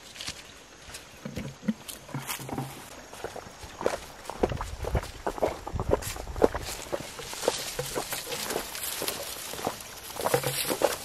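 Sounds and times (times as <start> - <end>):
footsteps through dry brush: 0.0 - 11.0.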